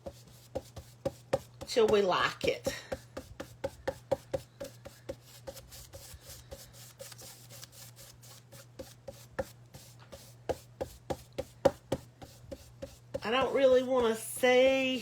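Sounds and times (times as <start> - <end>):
paintbrush tapping and rubbing canvas: 0.0 - 15.0.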